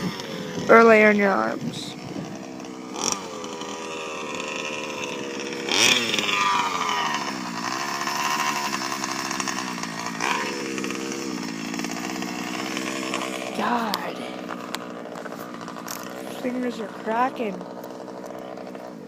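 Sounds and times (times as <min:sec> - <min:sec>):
small two-stroke engine revving: 0:00.0 - 0:19.0.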